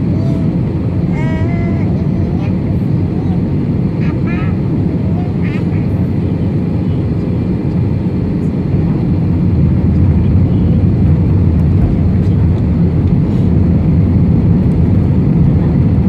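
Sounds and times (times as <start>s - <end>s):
airliner low rumble: 0.0s - 16.0s.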